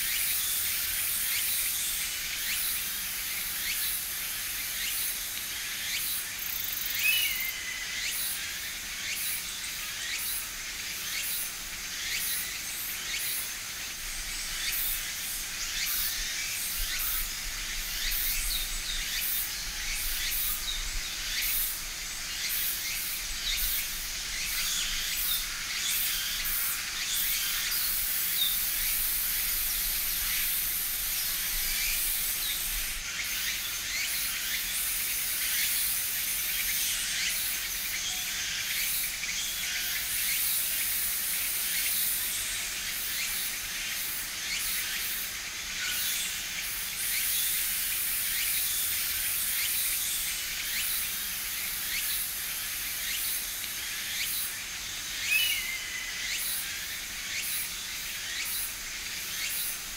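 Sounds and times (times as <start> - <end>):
insect chorus hissing: 0.0 - 59.9.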